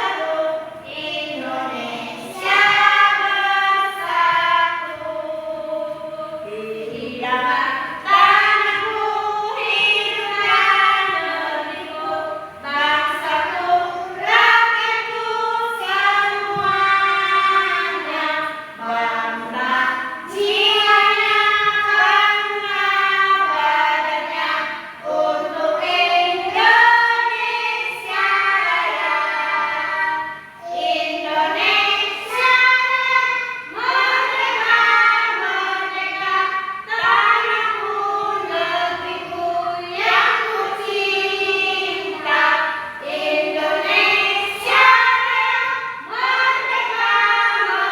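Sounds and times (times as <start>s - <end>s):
children singing: 0.0s - 47.9s.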